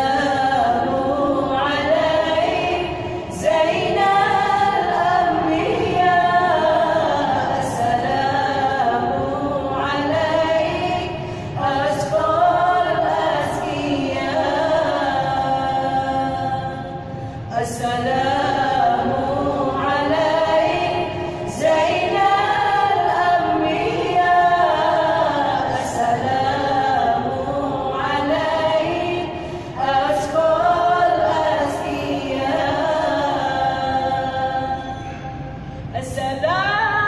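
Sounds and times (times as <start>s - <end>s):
women singing devotional song: 0.0s - 37.0s.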